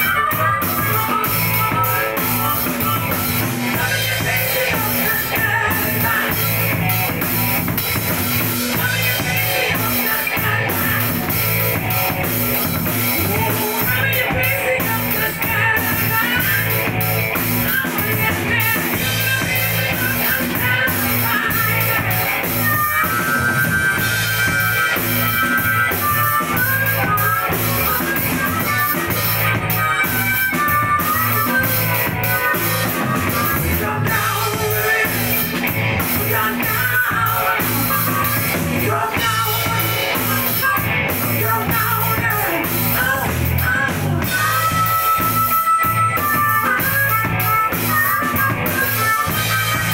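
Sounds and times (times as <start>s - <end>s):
harmonica held notes: 0.0s - 49.9s
rock band playing live: 0.0s - 49.9s.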